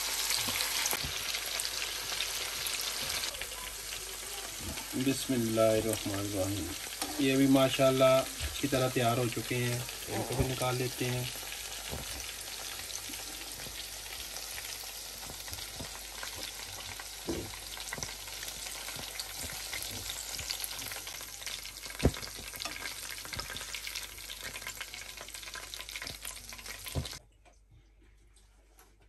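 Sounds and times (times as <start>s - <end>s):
hot oil sizzling: 0.0s - 27.2s.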